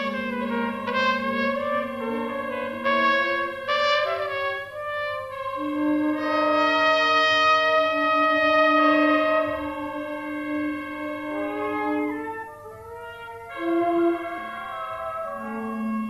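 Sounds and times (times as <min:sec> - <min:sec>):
jazz wind ensemble: 0:00.0 - 0:16.0
trumpet playing: 0:00.0 - 0:16.0.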